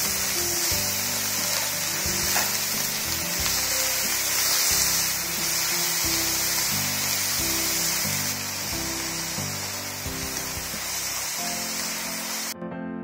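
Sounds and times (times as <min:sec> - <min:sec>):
mushrooms sizzling in hot oil: 0:00.0 - 0:12.6
background music: 0:00.0 - 0:13.0.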